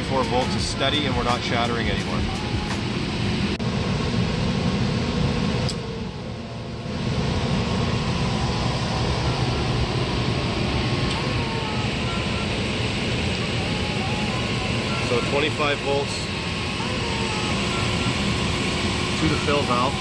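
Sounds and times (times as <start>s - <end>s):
humidifier low rumble: 0.0s - 20.0s.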